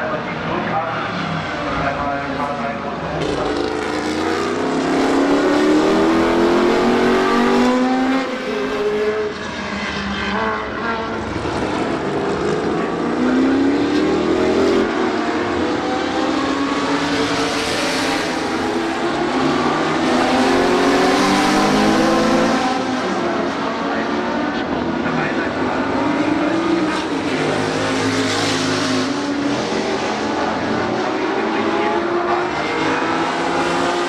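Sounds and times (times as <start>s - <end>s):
racing cars driving past: 0.2s - 34.0s.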